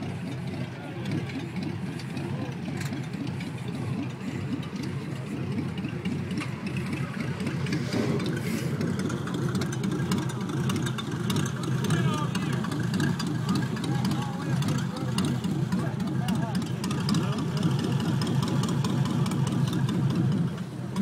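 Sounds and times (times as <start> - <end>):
car engine idling with lumpy beat: 0.0 - 21.0.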